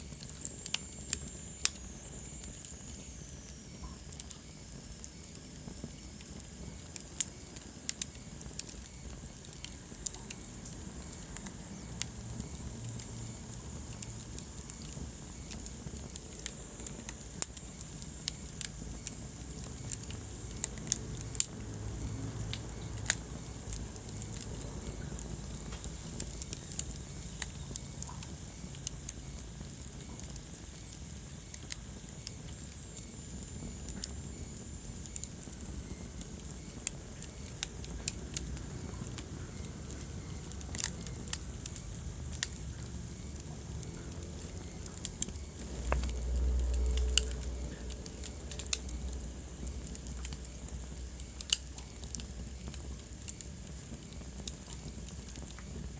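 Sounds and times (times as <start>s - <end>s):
flames rumbling: 0.0s - 55.9s
wood fire crackling: 0.0s - 55.9s.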